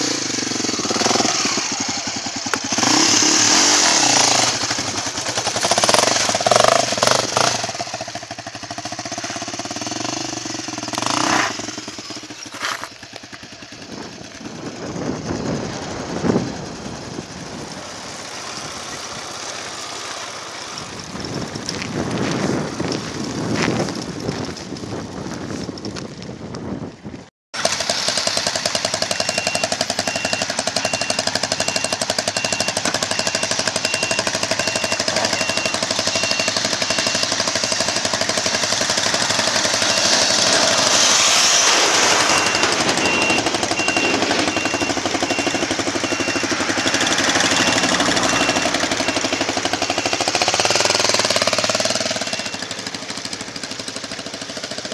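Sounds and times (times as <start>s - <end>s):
off-road vehicle engine running: 0.0s - 54.9s.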